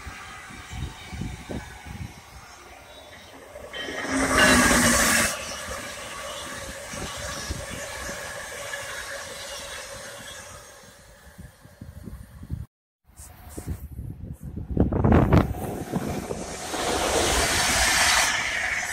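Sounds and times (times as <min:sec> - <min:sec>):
passenger train passing: 0:00.0 - 0:12.6, 0:14.7 - 0:18.9
wheels rumbling on rail: 0:00.0 - 0:12.7, 0:14.5 - 0:18.9.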